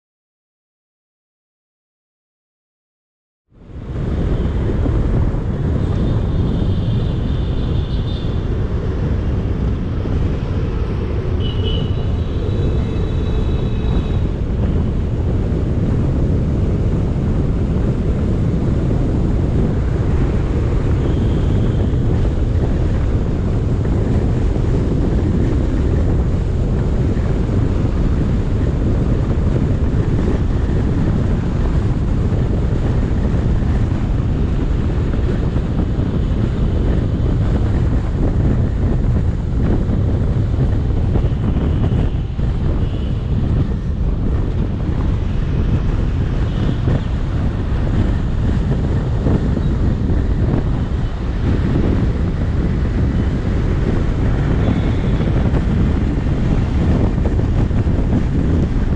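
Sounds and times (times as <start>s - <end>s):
wind buffeting microphone: 3.5s - 58.9s.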